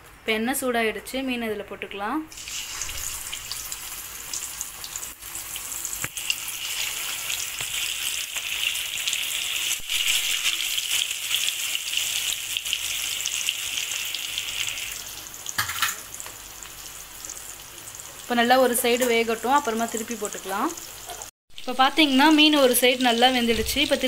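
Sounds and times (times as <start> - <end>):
fish sizzling in hot oil: 2.3 - 24.0.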